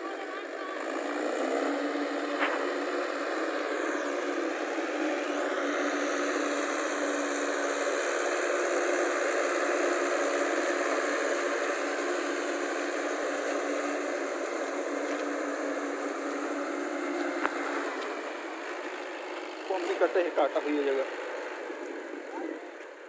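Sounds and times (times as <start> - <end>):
tractor diesel engine running: 0.0 - 23.0
wheels churning through mud: 0.0 - 23.0.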